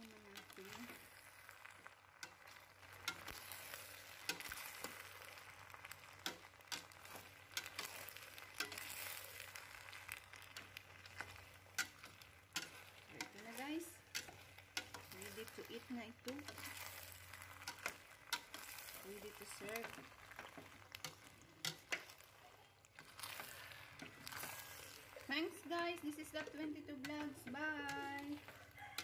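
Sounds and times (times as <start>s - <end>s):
faint steady sizzle: 0.0s - 29.0s
utensil scraping a metal pot: 0.0s - 29.0s.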